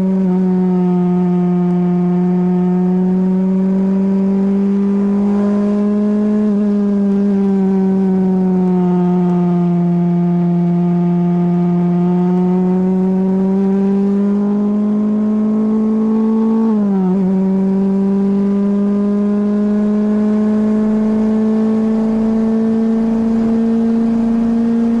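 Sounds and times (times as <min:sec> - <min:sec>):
race car engine at high revs: 0:00.0 - 0:25.0.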